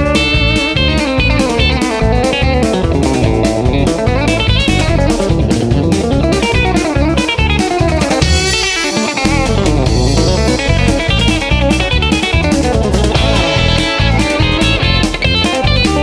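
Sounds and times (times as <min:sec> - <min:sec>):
electric guitar: 0:00.0 - 0:16.0
steady drum beat: 0:00.0 - 0:16.0.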